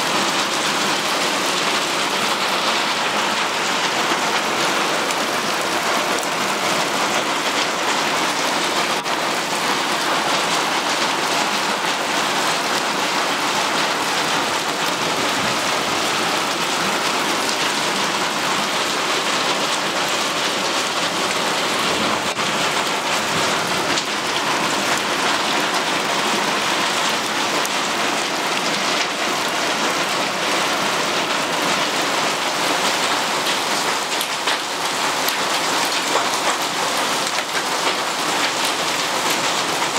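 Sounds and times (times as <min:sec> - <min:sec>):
hail and rain on tiles: 0:00.0 - 0:39.9.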